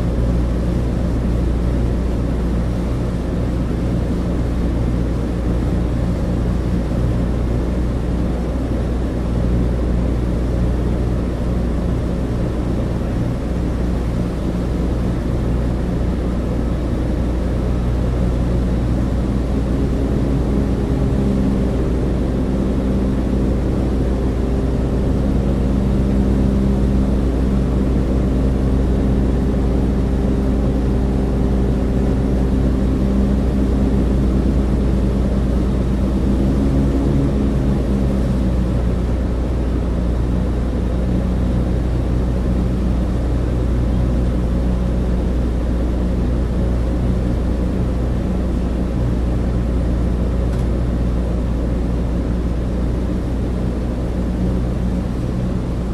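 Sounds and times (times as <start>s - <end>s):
propeller aircraft engines droning: 0.0s - 55.9s.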